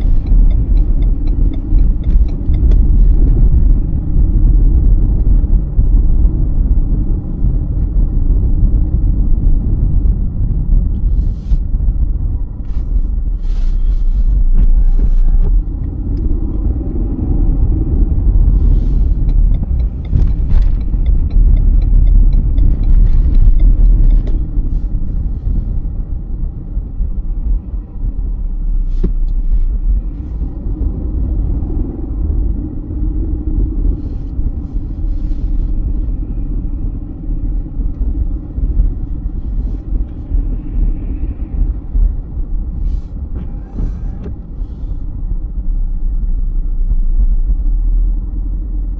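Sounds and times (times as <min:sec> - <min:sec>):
tyres and engine rumble: 0:00.0 - 0:48.9.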